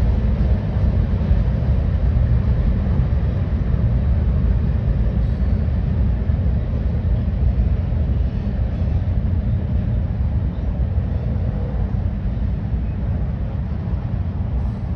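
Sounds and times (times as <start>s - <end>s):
distant freight train rumble: 0.0s - 14.9s.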